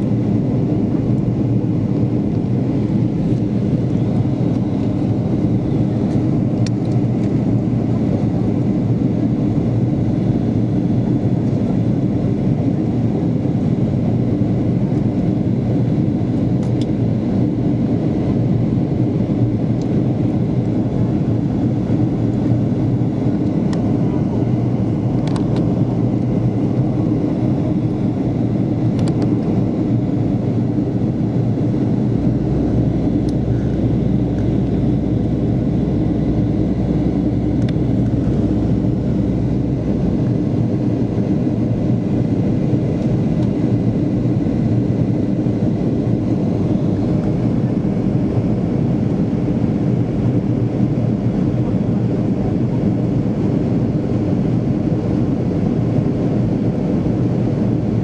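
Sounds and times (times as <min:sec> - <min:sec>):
jet engine and rushing air in cabin: 0:00.0 - 0:58.0.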